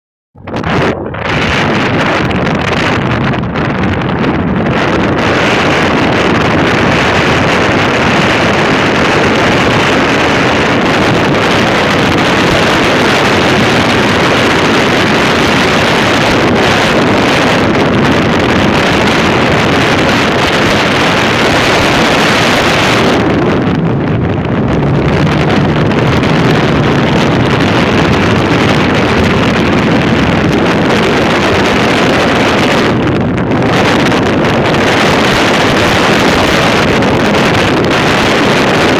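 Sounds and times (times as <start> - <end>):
wind buffeting microphone: 0.4 - 38.9.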